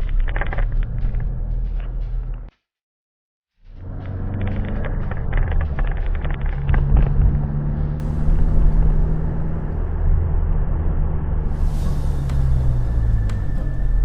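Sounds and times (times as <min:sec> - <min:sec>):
vehicle engine and road rumble: 0:00.0 - 0:02.5, 0:03.6 - 0:14.0.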